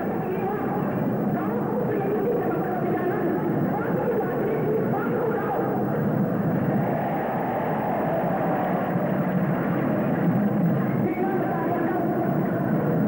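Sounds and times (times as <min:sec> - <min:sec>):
muffled crowd din: 0:00.0 - 0:13.0.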